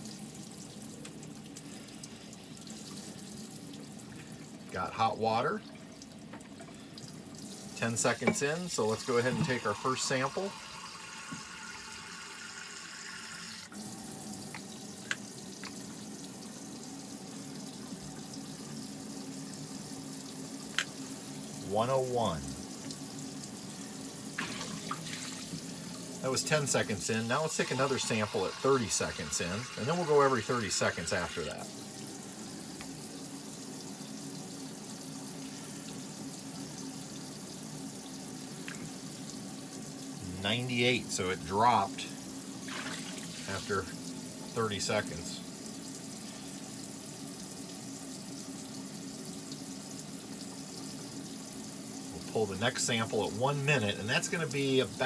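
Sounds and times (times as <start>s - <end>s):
water filling a mug: 0.0s - 55.0s
water running from faucet: 0.0s - 55.0s.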